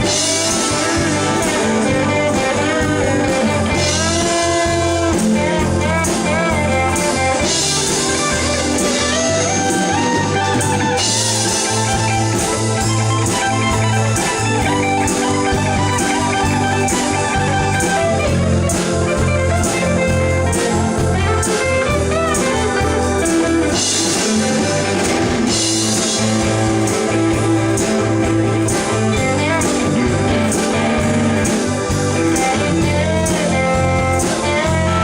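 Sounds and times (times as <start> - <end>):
bass line: 0.0 - 35.0
drums: 0.0 - 35.0
lead guitar bent notes: 0.0 - 35.0.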